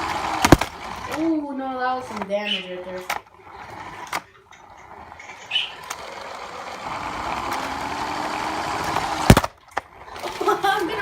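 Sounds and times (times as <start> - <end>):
toy car electric motor whirring: 0.0 - 11.0.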